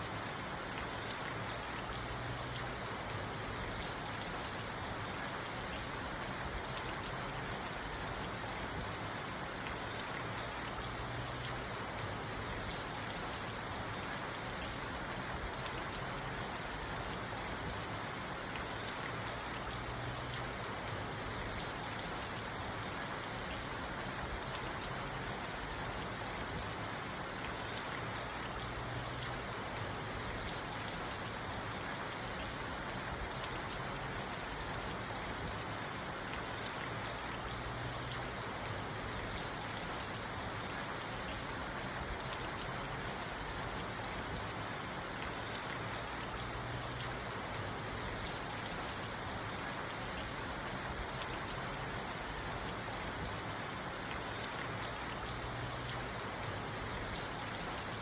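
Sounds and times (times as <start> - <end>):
rain on car roof: 0.1 - 58.0.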